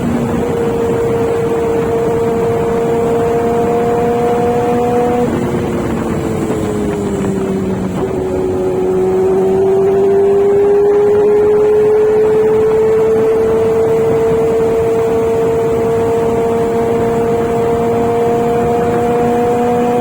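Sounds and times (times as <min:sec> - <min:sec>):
motorcycle engine running: 0:00.0 - 0:20.0
wind on microphone: 0:00.0 - 0:20.0.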